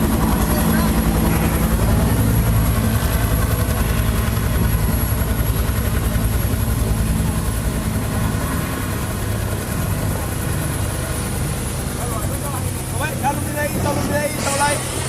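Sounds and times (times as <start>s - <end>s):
helicopter rotor beat: 0.0s - 15.0s
high turbine whine: 0.0s - 15.0s.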